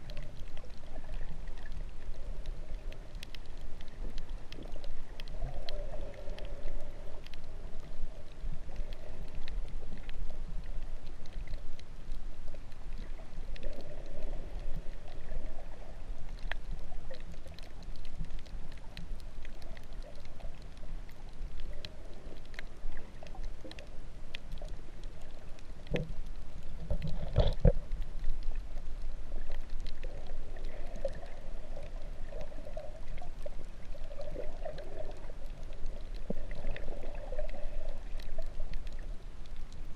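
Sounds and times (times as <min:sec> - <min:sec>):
faint underwater clicks: 0:00.0 - 0:39.9
muffled water swell: 0:00.0 - 0:39.9
underwater water rush: 0:00.0 - 0:39.9.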